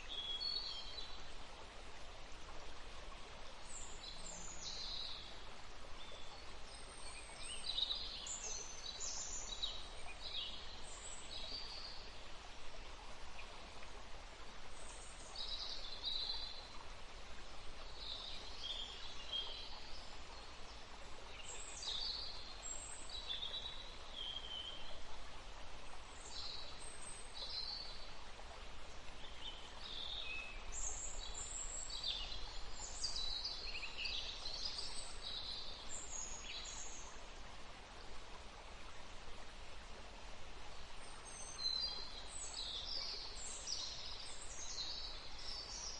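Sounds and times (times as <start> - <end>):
songbirds chirping: 0.0 - 45.9
stream running: 0.0 - 45.9.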